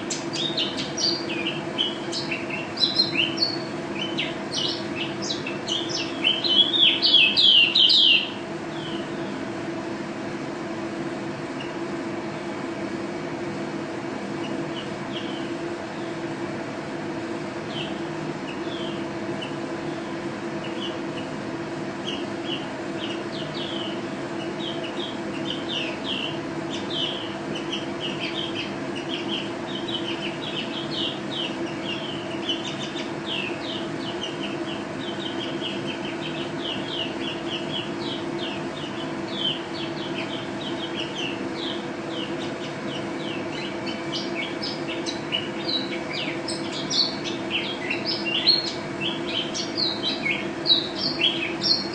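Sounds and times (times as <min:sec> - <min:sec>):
bird twittering: 0:00.0 - 0:09.4, 0:14.4 - 0:16.2, 0:17.7 - 0:21.3, 0:22.0 - 0:51.9
low mechanical hum: 0:00.0 - 0:51.9.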